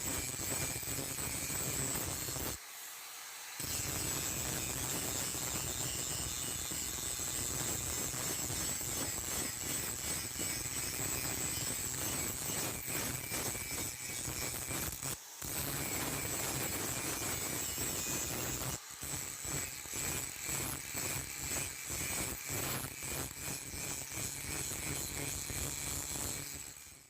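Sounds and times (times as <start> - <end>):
electric power tool whining: 0.0 - 27.0.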